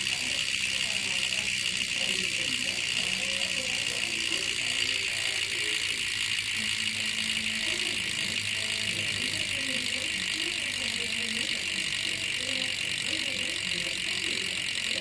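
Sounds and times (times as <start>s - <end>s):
bicycle freehub ratchet buzzing: 0.0s - 15.0s.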